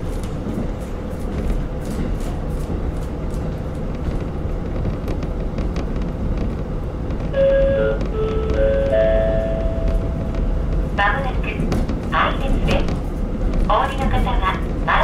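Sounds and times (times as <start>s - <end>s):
railcar diesel engine rumble: 0.0s - 15.0s
wheels on rails: 0.0s - 15.0s.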